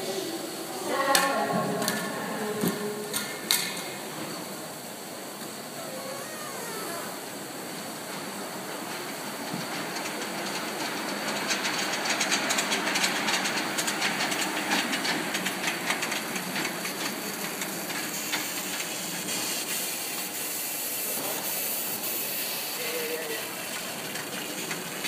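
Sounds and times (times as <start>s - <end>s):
steam hissing: 0.0s - 25.0s
steam locomotive chuffing: 0.0s - 25.0s.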